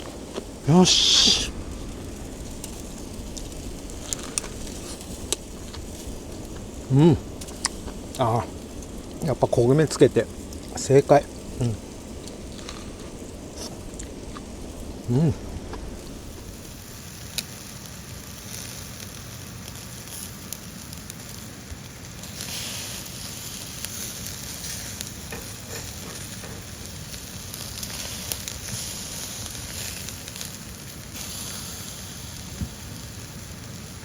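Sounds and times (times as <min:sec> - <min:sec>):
chicken sizzling on a grill: 0:00.0 - 0:34.0
small pops and crackles: 0:00.0 - 0:34.0.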